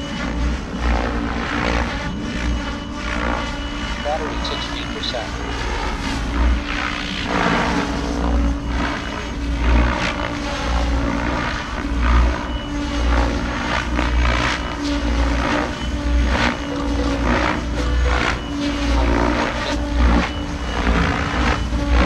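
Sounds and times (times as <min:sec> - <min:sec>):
rc helicopter rotor whirring: 0:00.0 - 0:22.0.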